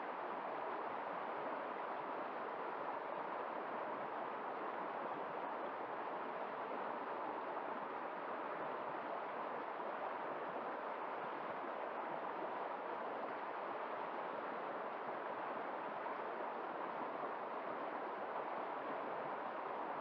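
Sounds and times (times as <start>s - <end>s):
river water over rocks: 0.1s - 20.0s.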